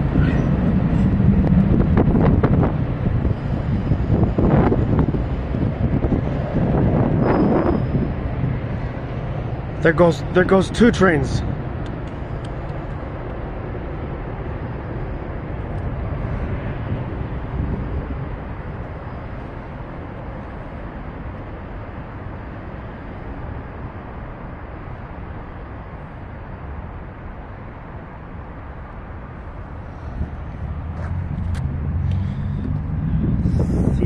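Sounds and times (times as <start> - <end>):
train rumbling past: 0.0 - 34.0.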